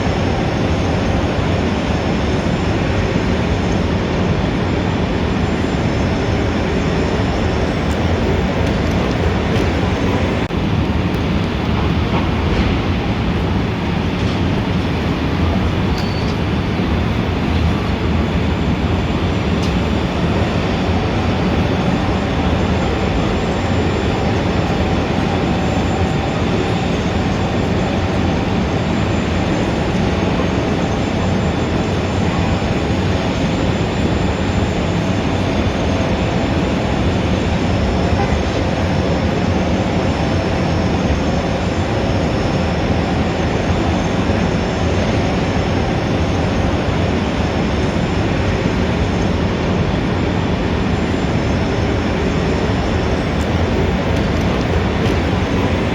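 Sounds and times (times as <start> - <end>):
city traffic rumble: 0.0 - 55.9.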